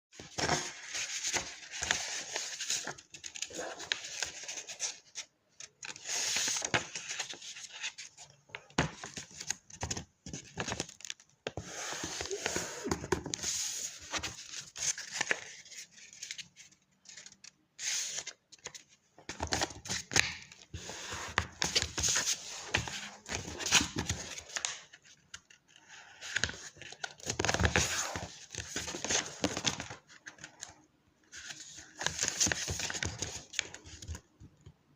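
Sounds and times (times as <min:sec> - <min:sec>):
paper rustling and crinkling: 0:00.2 - 0:30.7, 0:31.3 - 0:34.2.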